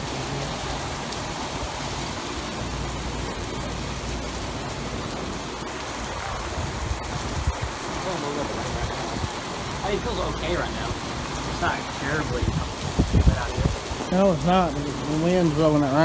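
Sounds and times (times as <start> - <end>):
low wind rumble: 0.0 - 15.2
rain falling: 0.0 - 16.0.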